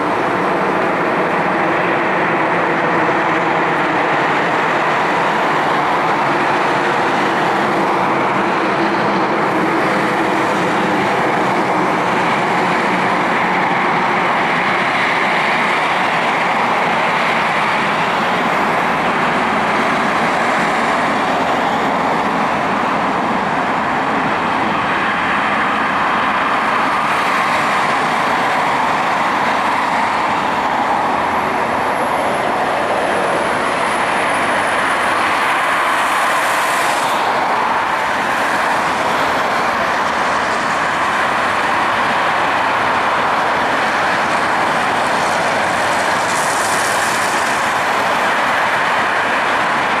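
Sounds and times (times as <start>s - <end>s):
jet engine roar: 0.0s - 50.0s.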